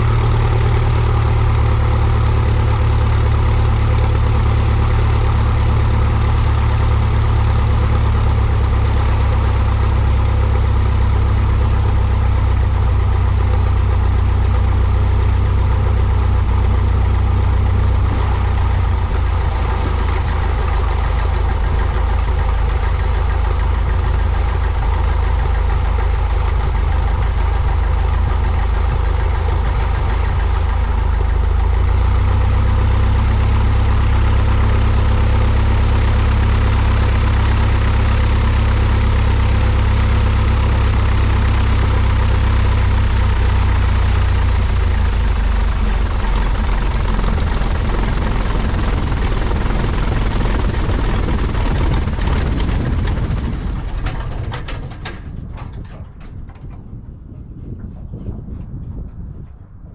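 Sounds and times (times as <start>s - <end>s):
propeller plane engine idling: 0.0s - 59.9s.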